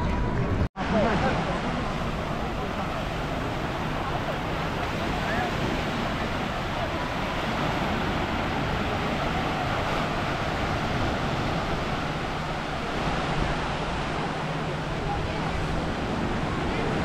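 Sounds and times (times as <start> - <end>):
small waves breaking on sand: 0.8 - 17.0.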